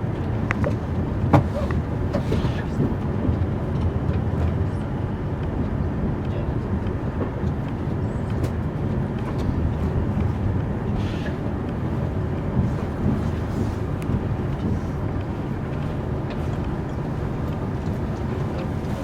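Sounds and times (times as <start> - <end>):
high-speed train rumble: 0.0 - 19.0.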